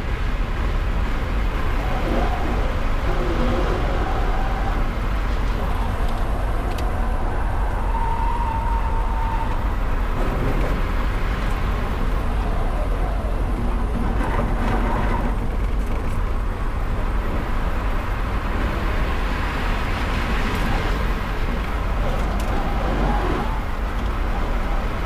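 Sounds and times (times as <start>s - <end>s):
heavy low rumble: 0.0s - 25.0s
tyre road and wind noise: 0.0s - 25.0s.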